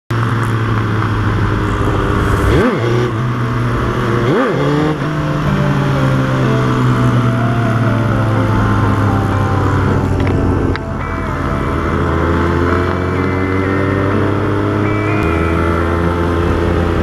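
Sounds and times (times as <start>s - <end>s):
motorcycle engine cruising: 0.1s - 17.0s.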